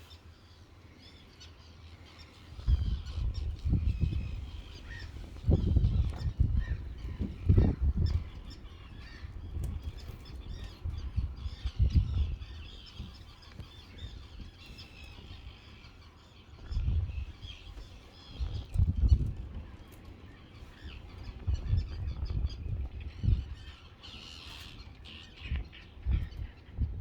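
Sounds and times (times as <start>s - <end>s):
birds chattering chorus: 0.0s - 27.0s
wind buffeting microphone: 2.4s - 27.0s.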